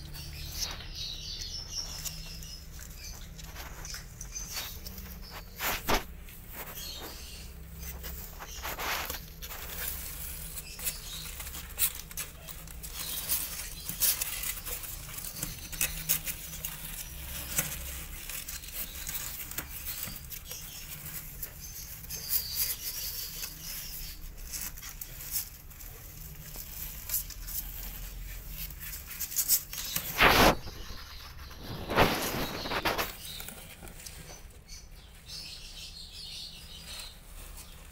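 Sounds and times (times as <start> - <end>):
kitten claws scratching cardboard: 0.4 - 34.5.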